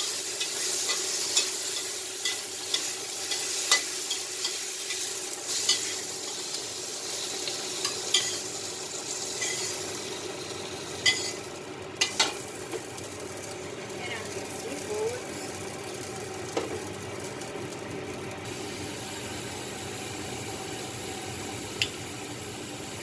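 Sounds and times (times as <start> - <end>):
squid sizzling in oil: 0.0 - 23.0.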